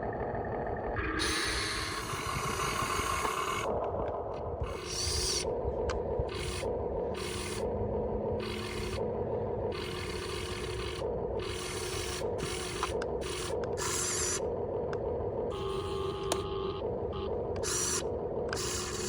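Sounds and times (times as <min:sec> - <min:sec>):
pump motor humming: 0:01.0 - 0:19.0.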